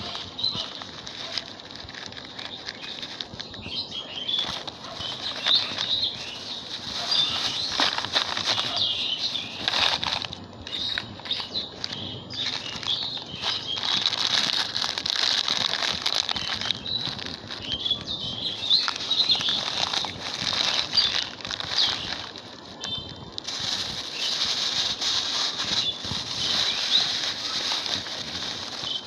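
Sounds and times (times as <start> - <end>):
plastic garbage bag rustling: 0.0 - 29.0.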